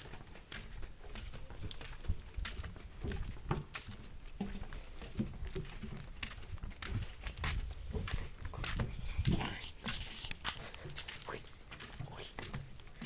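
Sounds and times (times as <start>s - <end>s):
footsteps on wooden boardwalk: 0.0s - 13.0s.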